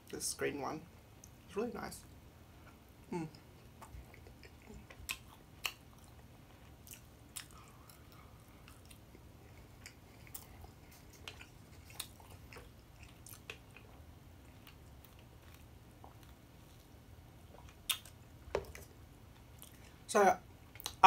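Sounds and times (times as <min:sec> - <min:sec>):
person chewing food: 0:02.6 - 0:20.0, 0:20.6 - 0:21.0.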